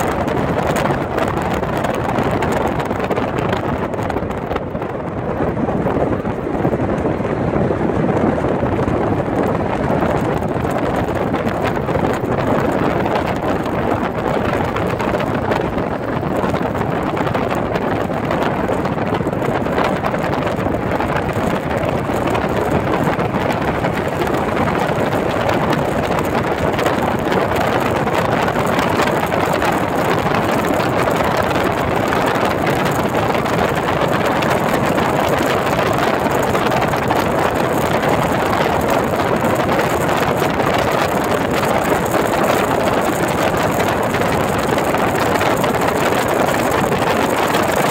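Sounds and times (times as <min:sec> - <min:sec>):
road and wind noise inside car: 0:00.0 - 0:47.9.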